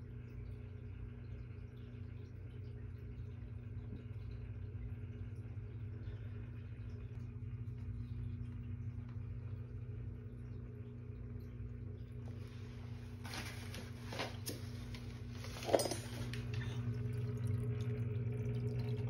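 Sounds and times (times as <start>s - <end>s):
low electrical hum with tones: 0.0s - 19.0s.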